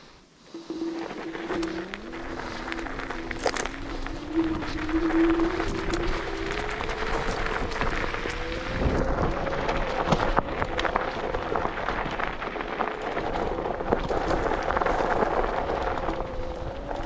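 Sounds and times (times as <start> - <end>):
electric scooter whine: 0.0 - 17.0
wind and tyre noise: 0.0 - 17.0.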